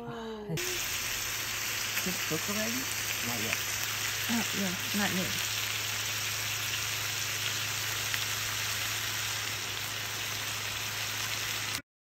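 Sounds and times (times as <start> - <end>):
meat sizzling in fat: 0.6 - 11.8.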